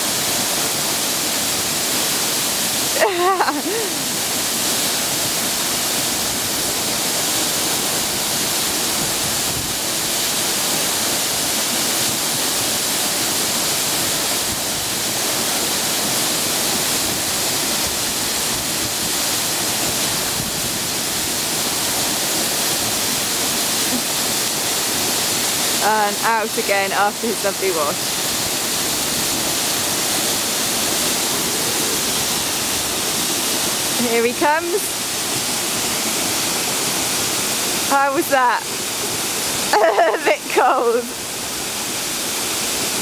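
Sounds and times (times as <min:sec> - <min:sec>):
waterfall pouring: 0:00.0 - 0:43.0.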